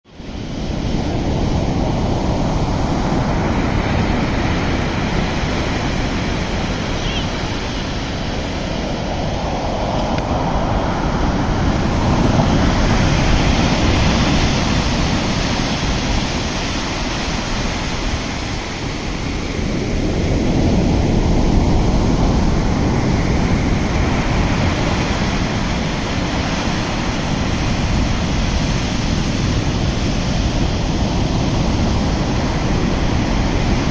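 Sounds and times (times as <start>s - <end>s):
sea waves surging: 0.1s - 33.9s.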